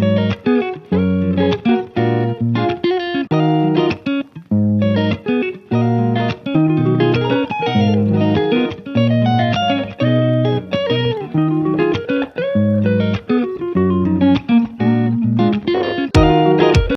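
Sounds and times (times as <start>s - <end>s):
plucked guitar music with beat: 0.0s - 16.9s.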